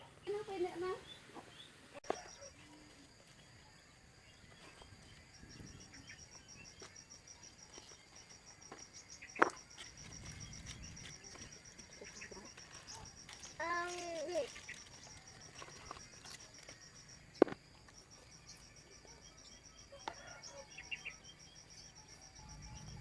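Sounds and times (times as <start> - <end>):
insect chirping: 0.2 - 23.0.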